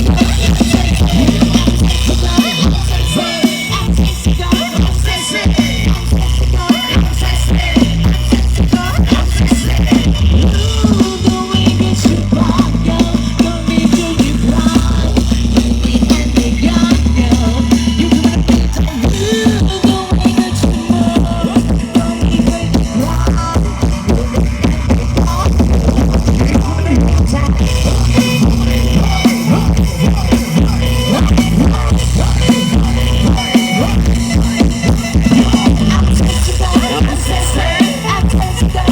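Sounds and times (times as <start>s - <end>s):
heavy bass line: 0.0s - 38.9s
loud party music with singing: 0.0s - 38.9s.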